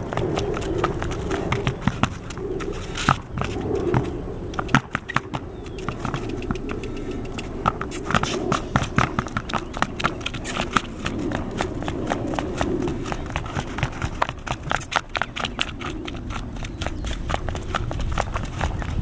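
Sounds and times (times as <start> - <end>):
horse hooves on concrete: 0.0 - 19.0.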